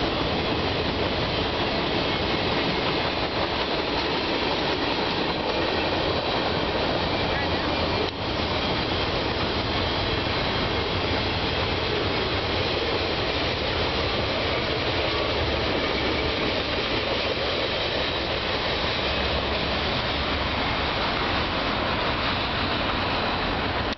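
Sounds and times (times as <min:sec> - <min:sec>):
freight train wheels on rails: 0:00.0 - 0:23.9.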